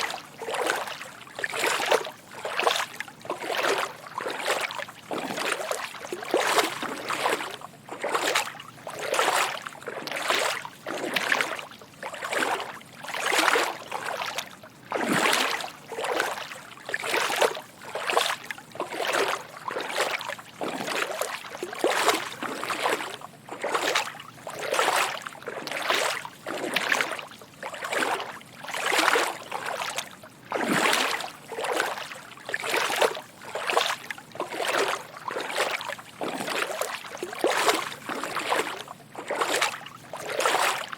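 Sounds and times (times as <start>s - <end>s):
footsteps wading through water: 0.0s - 40.9s.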